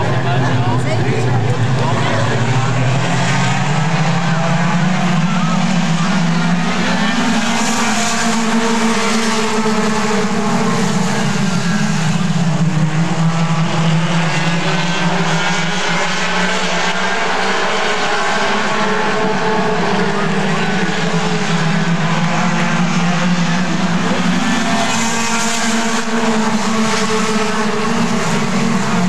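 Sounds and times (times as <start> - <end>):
race car engines running: 0.0 - 29.0.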